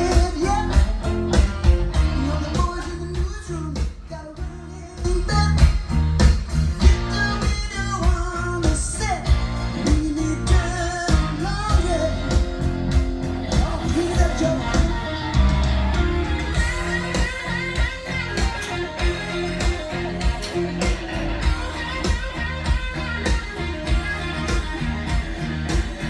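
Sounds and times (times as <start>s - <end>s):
rock song with singing: 0.0s - 26.0s.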